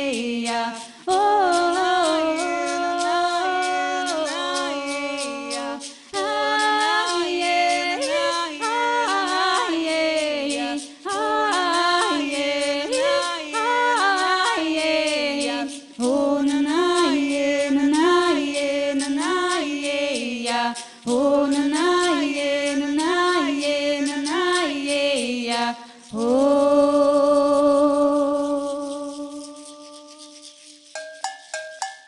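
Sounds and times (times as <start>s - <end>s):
voices singing chant-like melody: 0.0s - 30.7s
light percussion beat: 0.0s - 32.0s.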